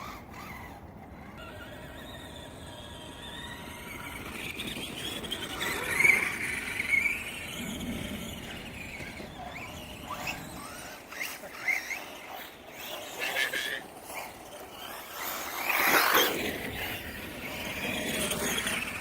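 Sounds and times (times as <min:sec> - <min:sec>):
electric toy truck motors whining: 0:00.0 - 0:19.0.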